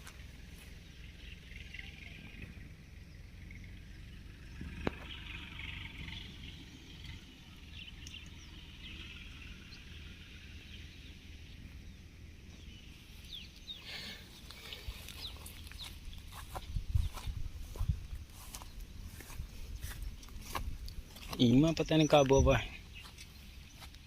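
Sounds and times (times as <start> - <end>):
steady low rumble: 0.0 - 24.0
high bird chirps: 0.8 - 20.4.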